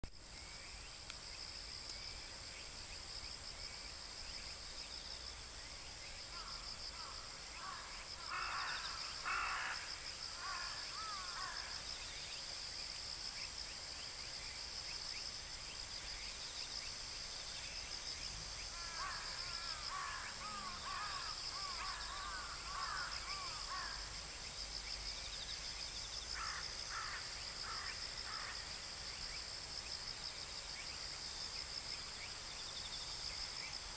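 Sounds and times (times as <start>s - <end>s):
chirring insect chorus: 0.2s - 33.9s.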